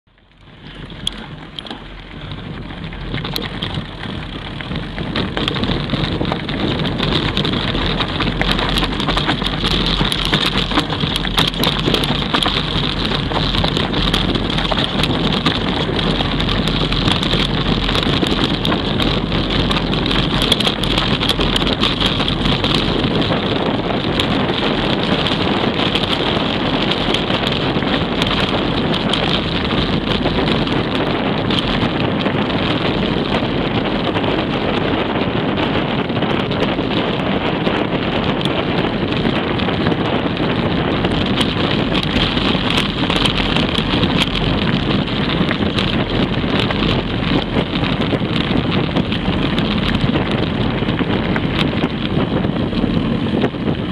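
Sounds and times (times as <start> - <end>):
wind buffeting microphone: 0.1 - 53.9
tyres crunching on loose stones: 0.2 - 37.1, 37.7 - 53.9
bike knocks and rattles: 0.3 - 53.9.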